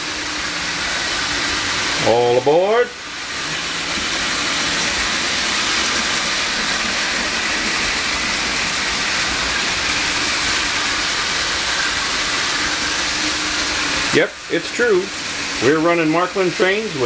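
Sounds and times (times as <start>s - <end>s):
model trains whirring: 0.0s - 17.0s.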